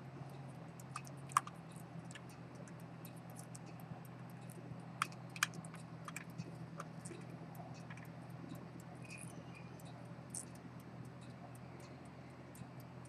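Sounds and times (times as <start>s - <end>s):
watchmaker's tools clicking and tapping: 0.3s - 13.0s.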